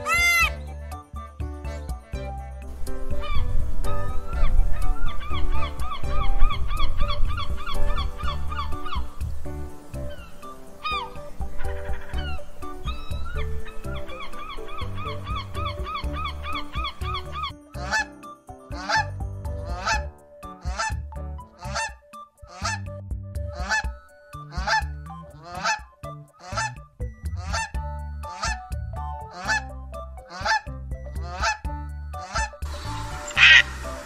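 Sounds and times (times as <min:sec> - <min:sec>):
background music: 0:00.0 - 0:34.0.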